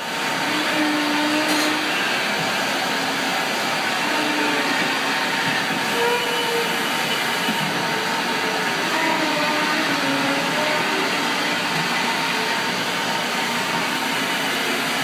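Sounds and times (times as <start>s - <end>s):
shop machinery whirring: 0.0s - 15.0s.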